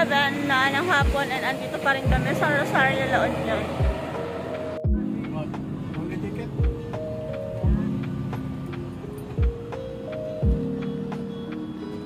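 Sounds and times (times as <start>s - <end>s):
held synth chords: 0.0s - 12.0s.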